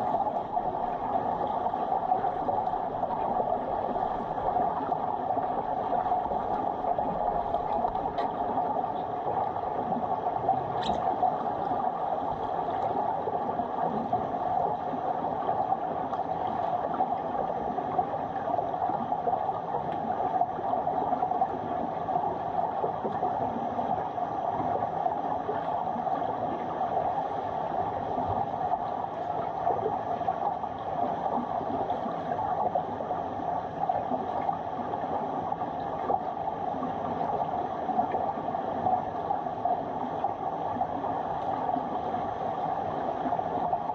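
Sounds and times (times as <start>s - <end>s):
underwater crackling rush: 0.0s - 43.9s.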